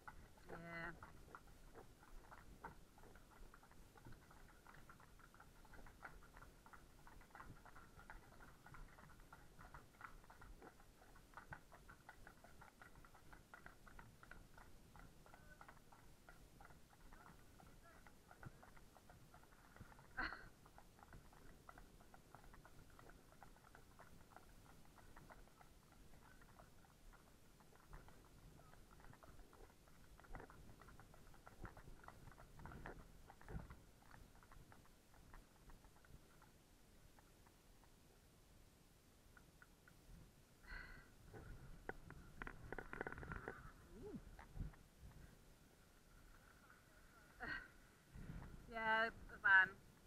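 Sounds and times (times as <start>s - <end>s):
horse hooves on tarmac: 0.0s - 38.0s, 41.3s - 45.4s.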